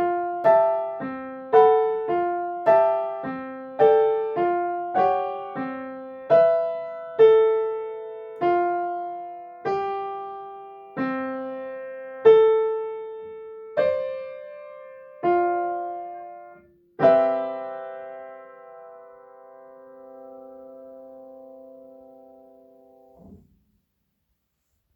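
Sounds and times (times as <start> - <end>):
slow piano melody: 0.0 - 23.6.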